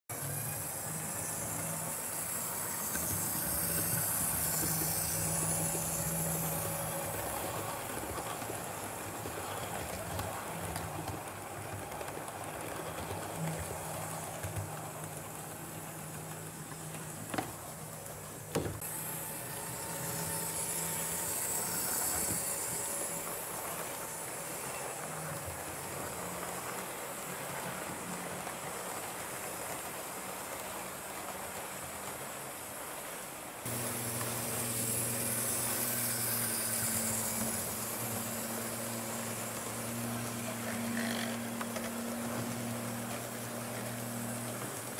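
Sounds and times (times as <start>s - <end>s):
model train running on rails: 0.1s - 44.9s.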